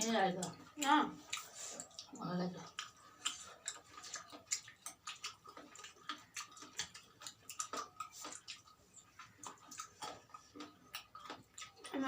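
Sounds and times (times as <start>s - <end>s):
wet eating clicks and smacks: 0.0s - 12.0s.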